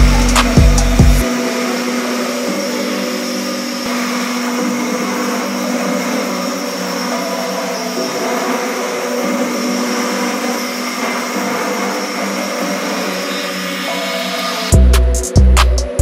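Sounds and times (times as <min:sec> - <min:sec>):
music burst: 0:00.0 - 0:16.0
router spindle whine: 0:00.0 - 0:16.0.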